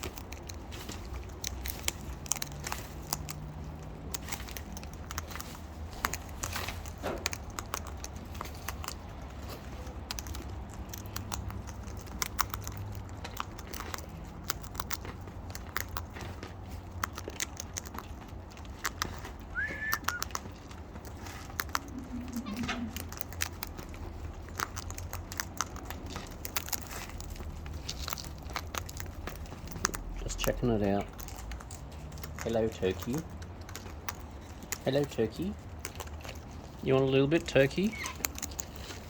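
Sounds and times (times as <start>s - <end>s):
bird beak pecking and crunching: 0.0s - 39.0s.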